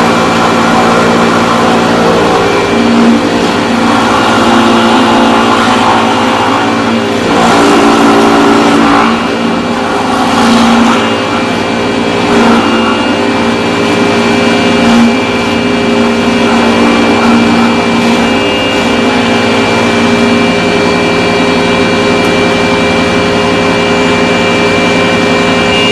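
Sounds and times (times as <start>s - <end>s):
power carving tool cutting wood: 0.0s - 21.8s.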